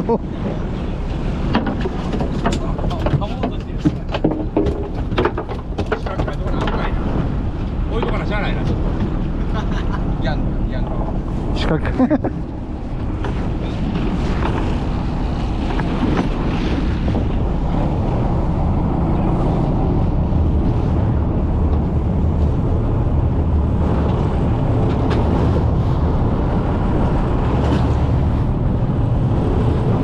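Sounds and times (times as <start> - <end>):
boat engine rumble: 0.0 - 30.0
wind buffeting microphone: 0.0 - 30.0.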